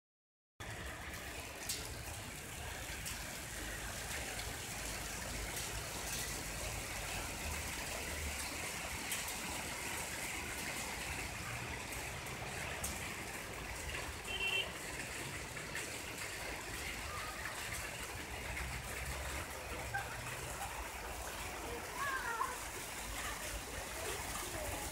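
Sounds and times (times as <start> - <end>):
heavy rain hissing: 0.7 - 24.9.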